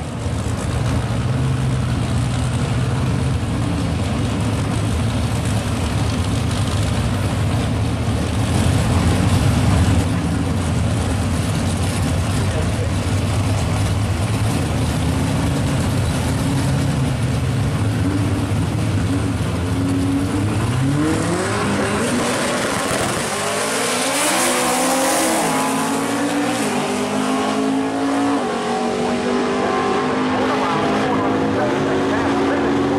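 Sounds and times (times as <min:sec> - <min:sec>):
drag car engines revving: 0:00.0 - 0:32.9.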